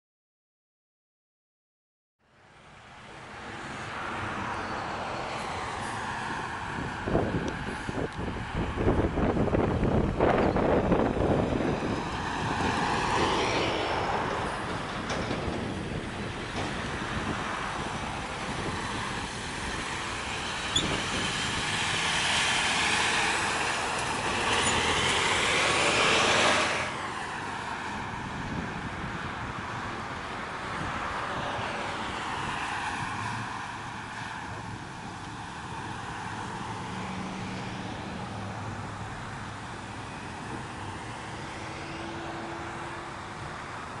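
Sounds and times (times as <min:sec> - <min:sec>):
heavy trucks passing: 0:02.6 - 0:44.0.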